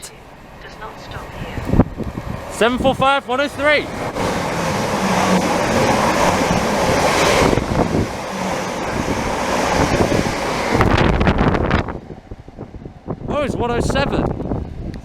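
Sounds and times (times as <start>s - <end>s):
train passing: 0.0s - 15.0s
wind buffeting microphone: 0.2s - 15.0s.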